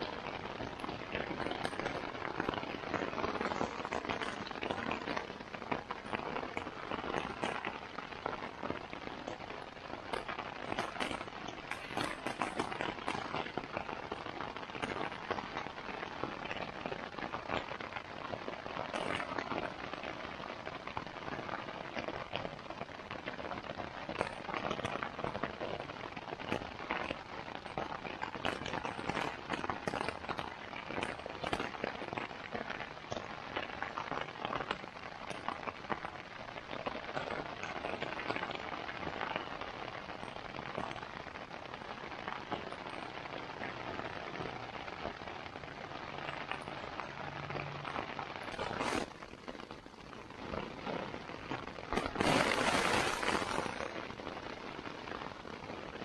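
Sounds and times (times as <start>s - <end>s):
rain on tent fabric: 0.0s - 56.0s.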